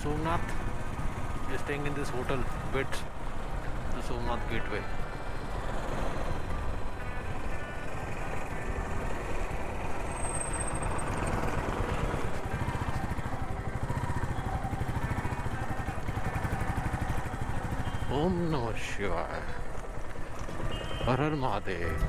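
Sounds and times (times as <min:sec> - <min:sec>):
motorcycle engine running: 0:00.0 - 0:18.8, 0:19.6 - 0:22.0.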